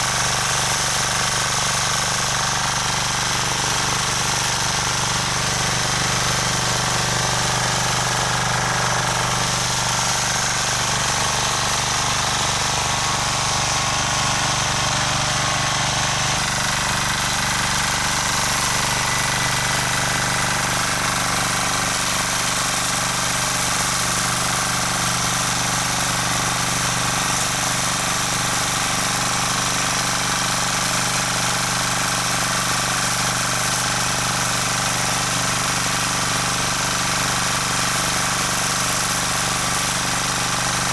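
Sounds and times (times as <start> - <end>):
tiller engine running: 0.0 - 40.9
tines churning soil: 0.0 - 40.9.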